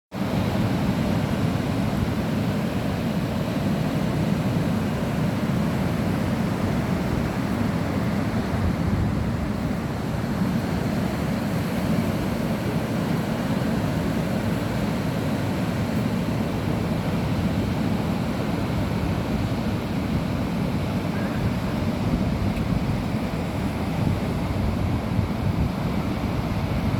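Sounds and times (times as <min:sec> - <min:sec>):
surf breaking on beach: 0:00.2 - 0:26.9
wind buffeting microphone: 0:04.5 - 0:26.9.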